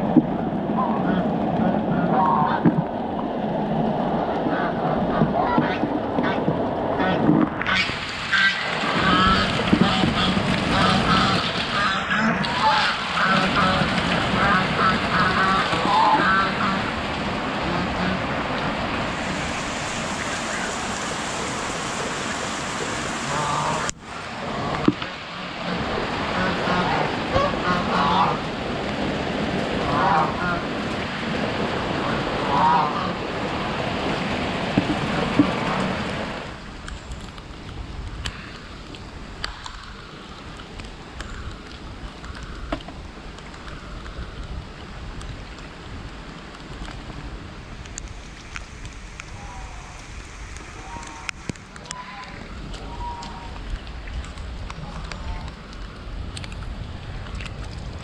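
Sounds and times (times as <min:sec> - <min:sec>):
rain and water flowing through grass: 0:00.0 - 0:58.0
wind rumble on microphone: 0:00.0 - 0:58.0.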